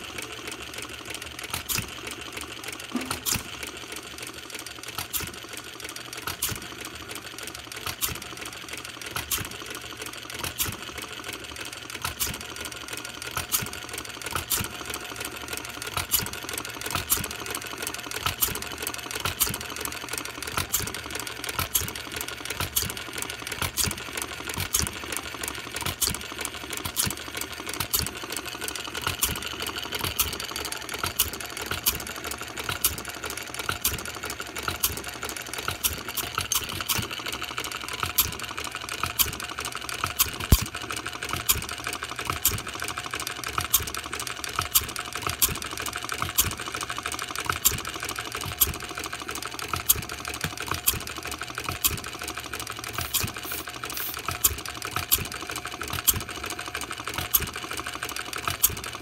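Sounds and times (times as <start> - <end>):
model gas engine running: 0.0 - 59.0.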